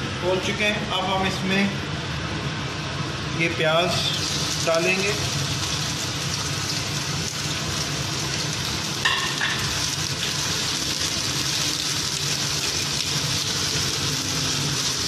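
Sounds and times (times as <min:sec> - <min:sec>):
onions sizzling in hot fat: 0:00.4 - 0:15.0.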